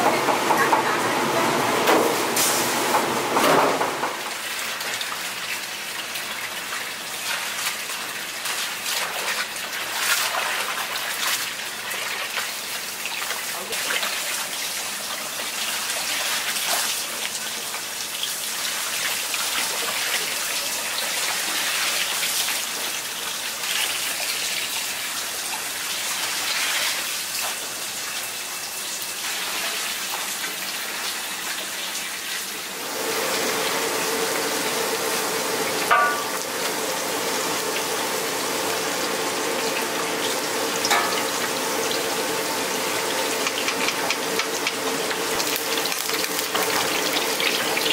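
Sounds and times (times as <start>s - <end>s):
running tap water: 1.6s - 47.9s.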